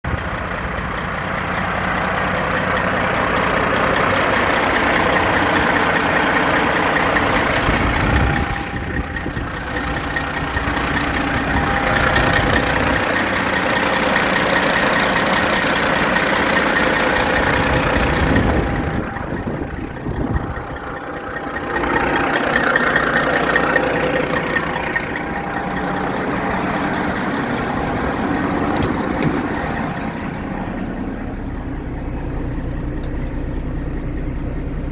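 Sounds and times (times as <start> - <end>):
heavy diesel truck engine: 0.0 - 34.9.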